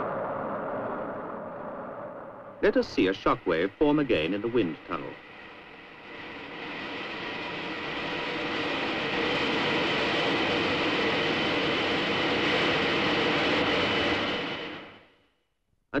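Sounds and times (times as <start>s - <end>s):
wind tunnel airflow roar: 0.0s - 15.0s.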